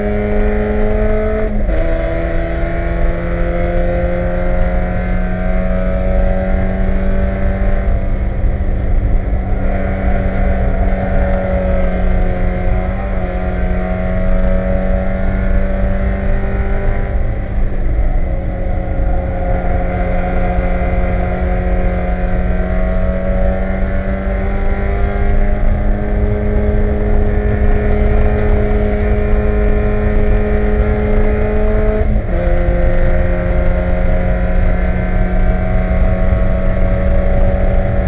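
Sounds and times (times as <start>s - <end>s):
race car engine pulling hard: 0.0s - 38.0s
road and wind noise: 0.0s - 38.0s.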